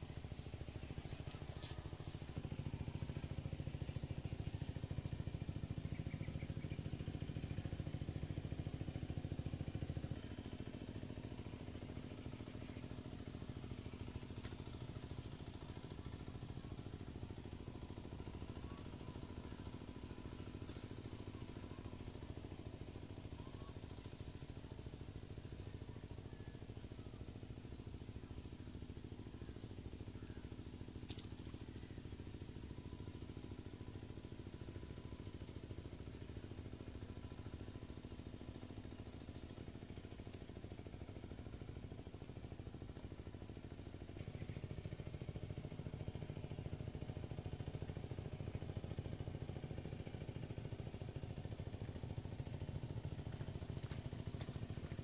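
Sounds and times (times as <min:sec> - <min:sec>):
engine-like drone: 0:00.0 - 0:55.0.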